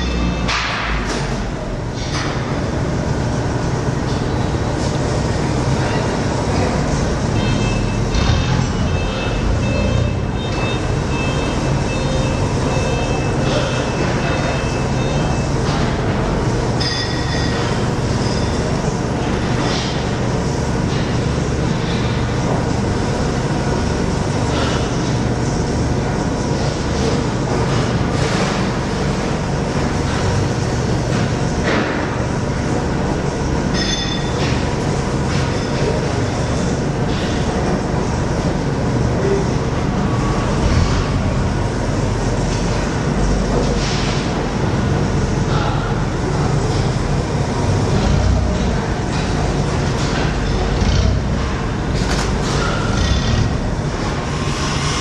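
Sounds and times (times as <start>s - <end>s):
machine mechanical rumble: 0.0s - 55.0s.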